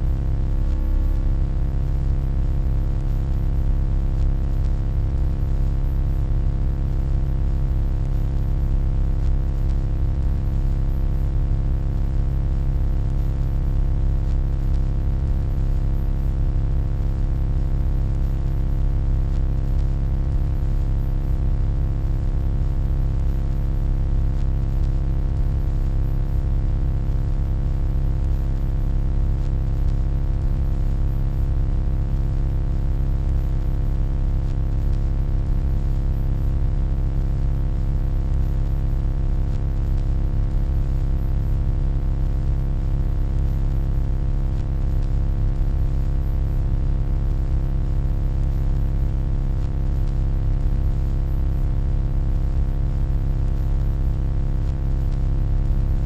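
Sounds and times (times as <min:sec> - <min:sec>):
electronic hum: 0:00.0 - 0:41.9, 0:42.7 - 0:46.9, 0:49.5 - 0:51.6.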